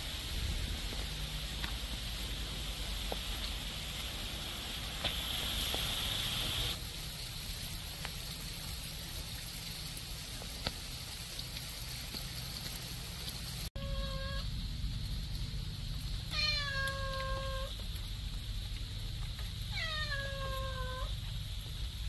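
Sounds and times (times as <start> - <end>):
heavy rain on wet path: 0.0 - 22.0
water pouring from pipe: 0.0 - 22.0.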